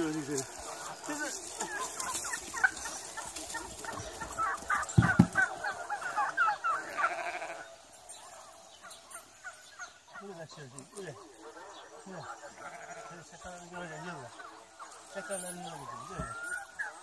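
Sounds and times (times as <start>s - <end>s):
turkeys gobbling: 0.1s - 7.8s, 8.4s - 17.0s.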